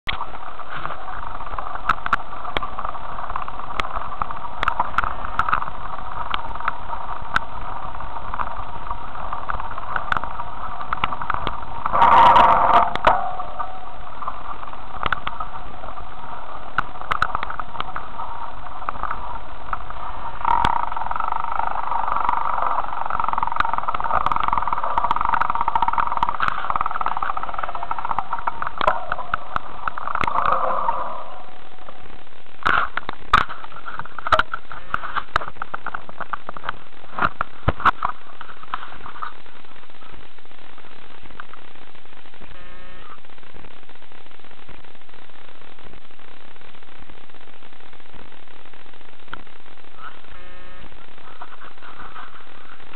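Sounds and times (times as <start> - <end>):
bicycle riding noise: 0.0 - 52.9
bike and camera rattling: 0.0 - 52.9.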